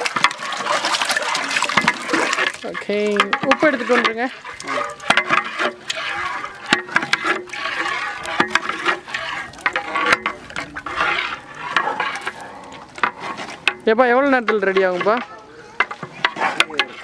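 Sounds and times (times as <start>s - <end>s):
liquid sloshing in a pot: 0.0s - 17.0s
stick knocking against metal pot: 1.2s - 17.0s.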